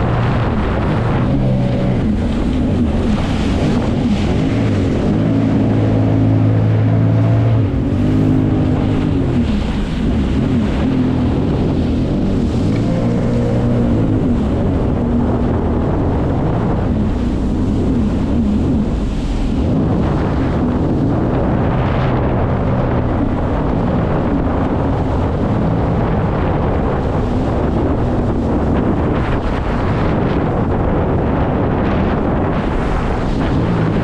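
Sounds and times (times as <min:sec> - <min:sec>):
jet ski engine running: 0:00.0 - 0:34.0
wind buffeting microphone: 0:00.0 - 0:34.0.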